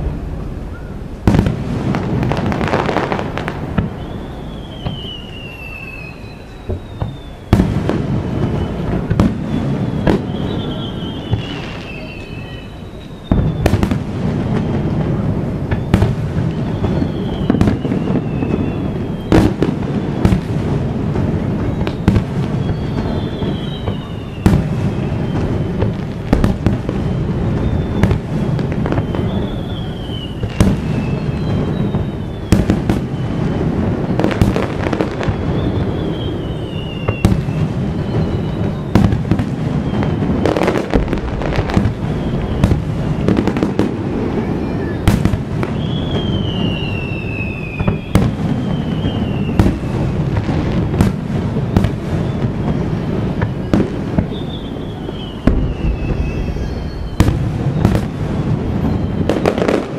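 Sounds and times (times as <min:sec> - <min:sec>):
high falling whistles: 0:02.4 - 0:14.9, 0:15.6 - 0:20.4, 0:21.5 - 0:50.2, 0:51.6 - 0:59.9.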